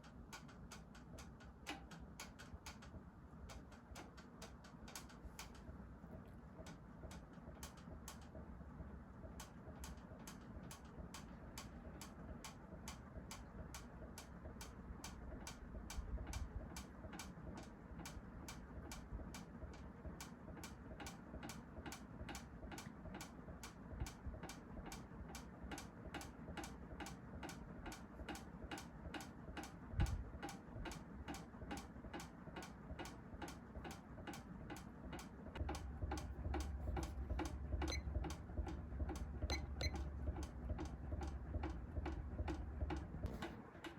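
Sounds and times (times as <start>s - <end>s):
ceiling fan ticking: 0.0s - 43.9s
fan motor rumble: 0.0s - 43.9s.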